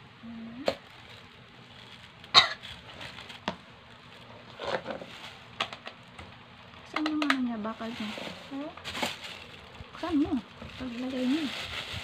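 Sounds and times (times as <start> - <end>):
plastic bag rustling: 0.4 - 12.0.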